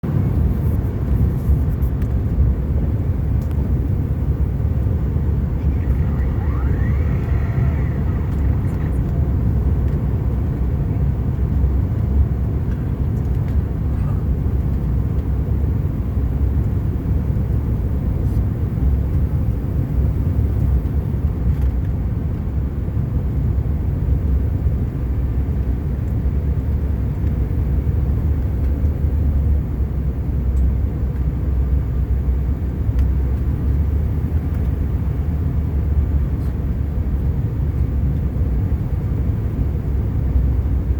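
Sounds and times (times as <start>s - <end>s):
airliner cabin rumble in flight: 0.0s - 40.9s.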